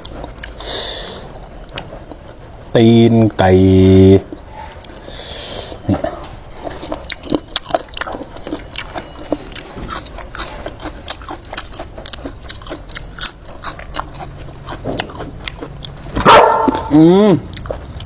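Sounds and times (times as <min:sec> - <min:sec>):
person chewing crunchy food: 0:00.0 - 0:02.8, 0:03.4 - 0:18.0.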